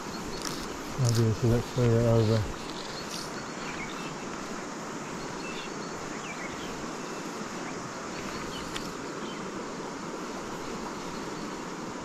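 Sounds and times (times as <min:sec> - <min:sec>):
river flowing: 0:00.0 - 0:12.0.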